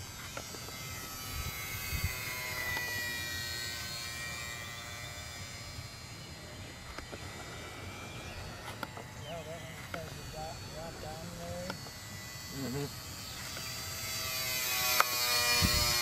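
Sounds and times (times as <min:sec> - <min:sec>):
model airplane motor buzzing: 0:00.0 - 0:16.0.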